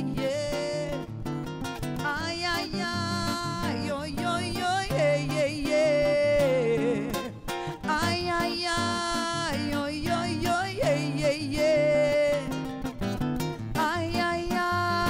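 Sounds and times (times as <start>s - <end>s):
nylon-string guitar: 0.0s - 15.0s
woman singing samba: 0.0s - 15.0s.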